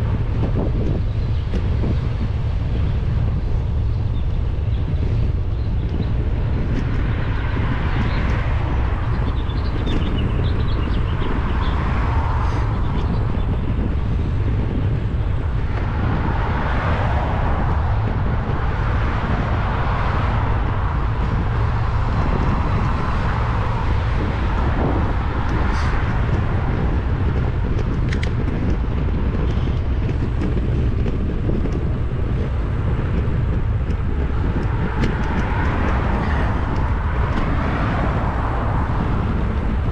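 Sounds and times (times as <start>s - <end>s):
road traffic passing: 0.0s - 39.9s
wind on microphone: 0.0s - 39.9s.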